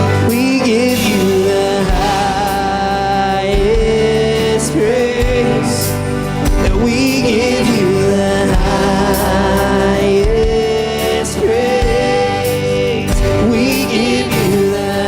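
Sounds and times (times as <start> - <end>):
worship band playing: 0.0 - 15.0.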